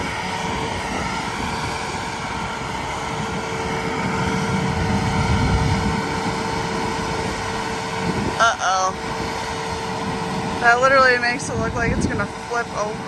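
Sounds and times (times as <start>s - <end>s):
engine humming: 0.0s - 13.0s
low rumble: 0.0s - 13.0s.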